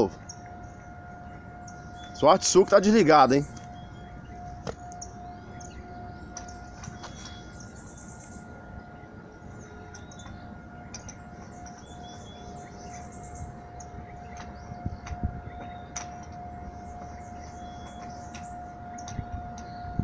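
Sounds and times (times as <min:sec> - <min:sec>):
small birds trilling: 0:00.0 - 0:20.0
steady high tone: 0:00.0 - 0:20.0.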